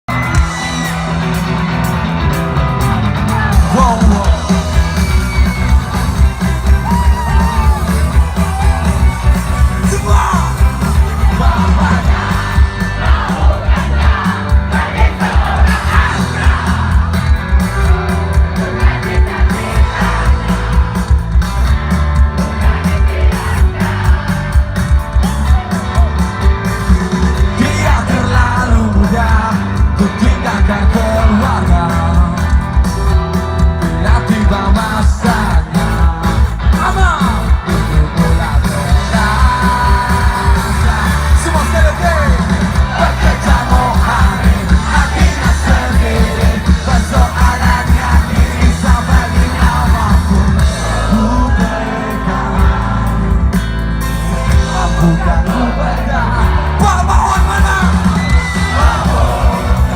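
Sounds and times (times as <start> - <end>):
audience shouting: 0.1 - 29.3, 38.6 - 53.1, 54.1 - 59.9
rock band playing live: 0.1 - 59.9
voices singing: 3.3 - 21.4, 22.2 - 26.1, 26.9 - 32.4, 34.0 - 59.9.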